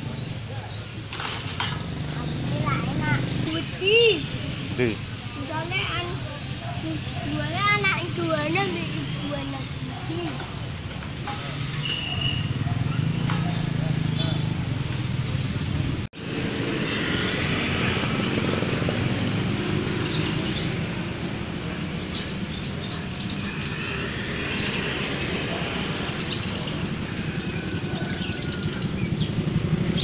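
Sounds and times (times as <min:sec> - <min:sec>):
caged birds chirping: 0:00.0 - 0:30.0.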